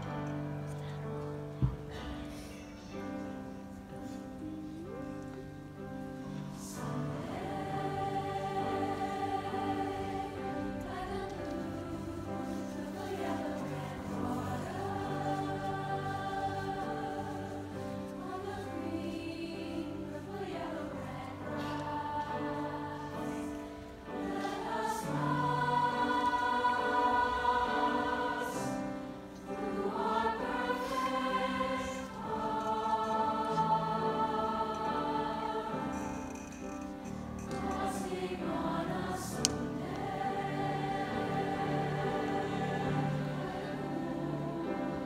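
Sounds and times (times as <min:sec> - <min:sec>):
choir singing: 0:01.4 - 0:45.0.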